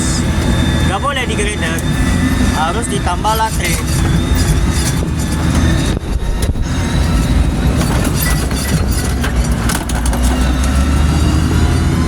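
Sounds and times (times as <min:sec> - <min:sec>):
heavy vehicle engine rumbling: 0:00.0 - 0:12.0
rattling and clatter: 0:00.3 - 0:12.0.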